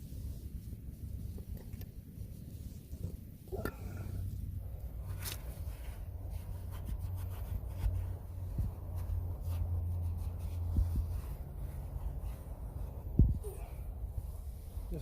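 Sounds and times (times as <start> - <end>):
hands rubbing car parts: 0.0 - 15.0
steady low hum: 0.0 - 15.0.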